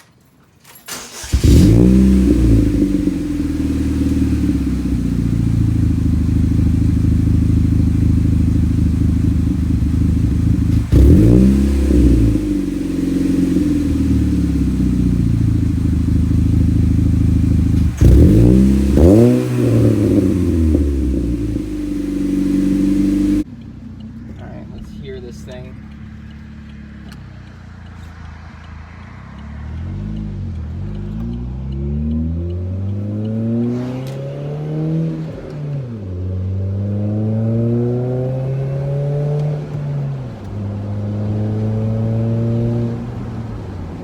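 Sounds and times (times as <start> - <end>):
car engine starting: 0.7 - 44.0
car engine revving: 0.9 - 44.0.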